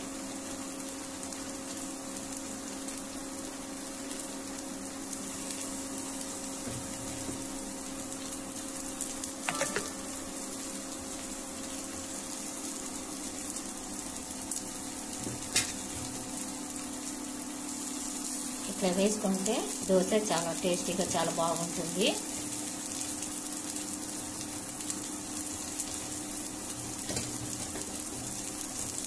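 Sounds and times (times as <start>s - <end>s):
batter sizzling in oil: 0.0s - 29.0s.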